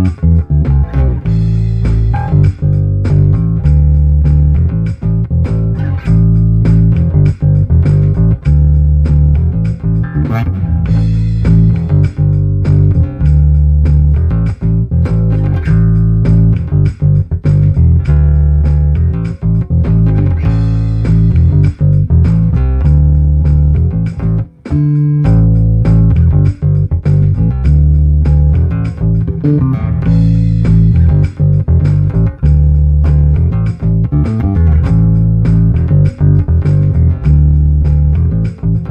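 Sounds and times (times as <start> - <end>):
drum loop: 0.0 - 38.9
electric bass notes: 0.0 - 38.9.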